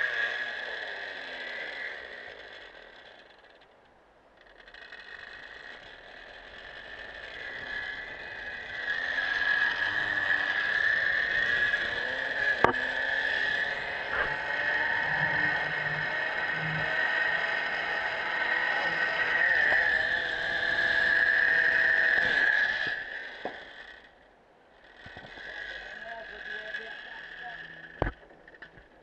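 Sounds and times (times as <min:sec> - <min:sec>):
zip-line pulleys whining on cable: 0:00.0 - 0:29.0.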